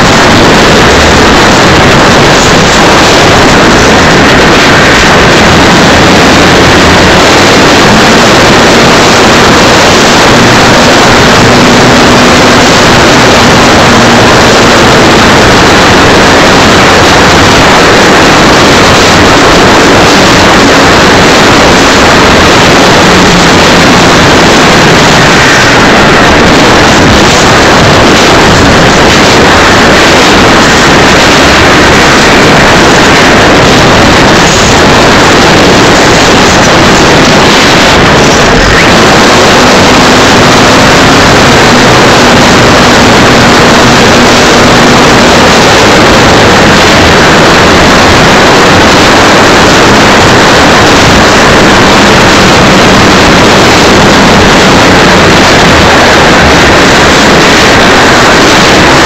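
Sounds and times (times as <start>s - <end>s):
faint engine drone: 0.0s - 59.0s
wind blowing on microphone: 0.0s - 59.0s.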